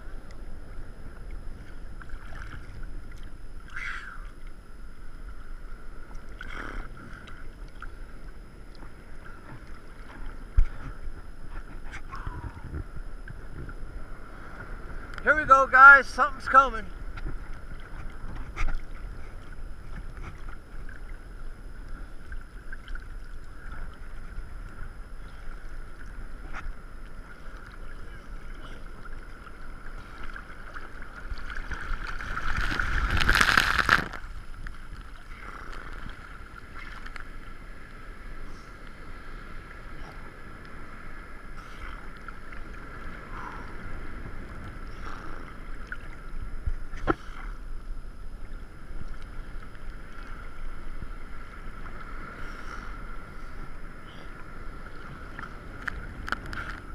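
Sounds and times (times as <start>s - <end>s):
water sloshing and lapping: 0.6s - 4.6s, 5.9s - 15.2s, 17.1s - 39.0s, 39.6s - 47.9s, 48.7s - 56.9s.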